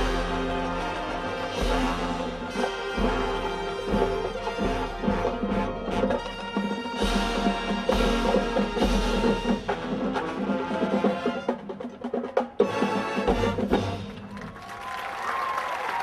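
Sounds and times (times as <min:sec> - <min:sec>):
brass chords: 0:00.0 - 0:12.0, 0:12.6 - 0:14.3
drumline strokes: 0:00.0 - 0:14.8.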